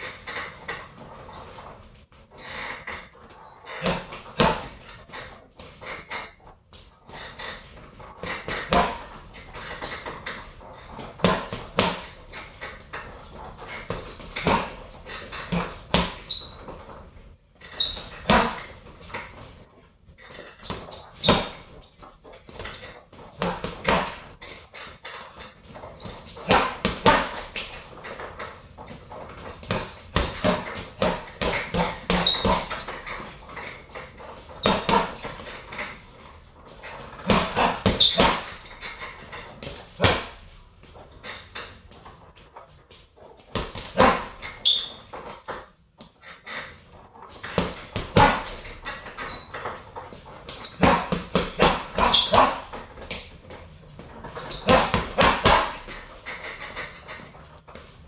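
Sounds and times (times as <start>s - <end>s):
boxing gloves punching heavy bag: 3.8s - 6.5s, 7.1s - 16.9s, 17.7s - 19.4s, 20.3s - 42.2s, 43.4s - 45.3s, 47.3s - 57.9s.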